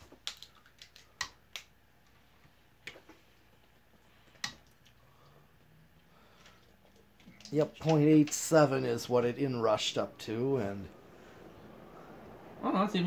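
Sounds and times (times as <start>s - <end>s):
ceiling fan spinning: 0.0s - 13.0s
faint low hum: 0.0s - 13.0s.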